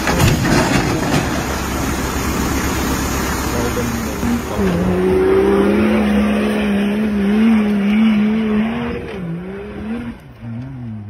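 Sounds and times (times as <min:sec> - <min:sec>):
off-road engine revving high: 0:01.0 - 0:11.0.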